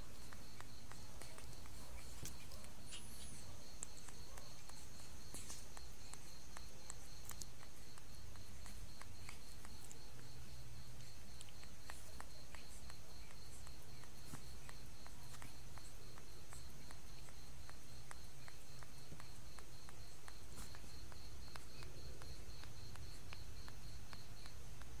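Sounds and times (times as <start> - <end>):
soft irregular sucking clicks: 0.0 - 25.0.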